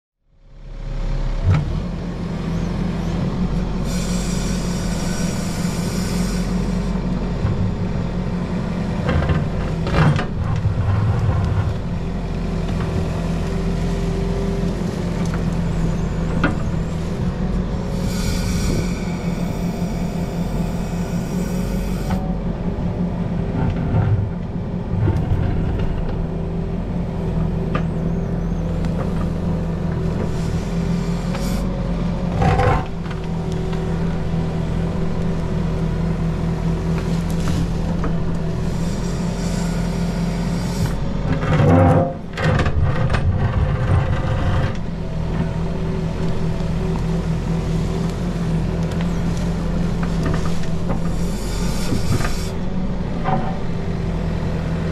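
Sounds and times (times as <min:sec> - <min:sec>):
excavator diesel engine running: 0:00.3 - 0:54.9.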